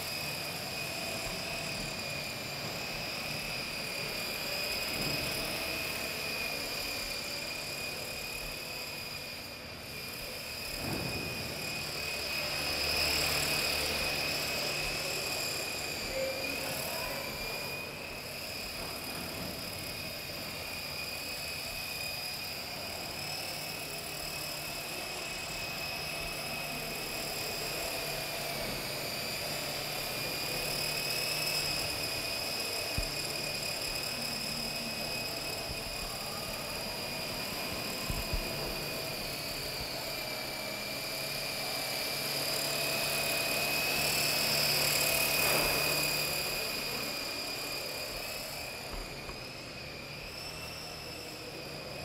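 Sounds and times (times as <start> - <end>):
toy helicopter rotor whine: 0.0 - 52.0.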